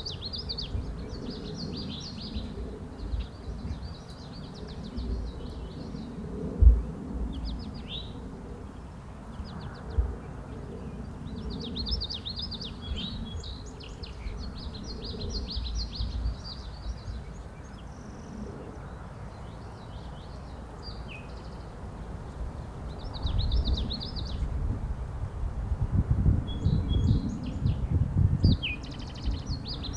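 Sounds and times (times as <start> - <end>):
songbirds chirping trills: 0.0 - 24.5, 26.6 - 29.9.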